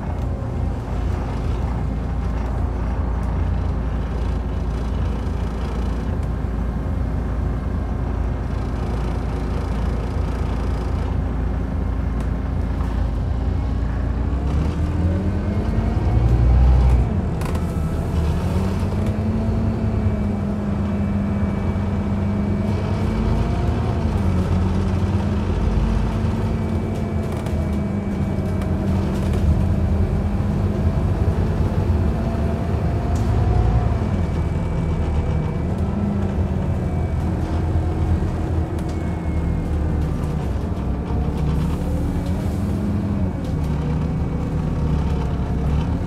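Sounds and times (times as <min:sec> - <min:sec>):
bus diesel engine: 0:00.0 - 0:46.0
road noise: 0:00.0 - 0:46.0.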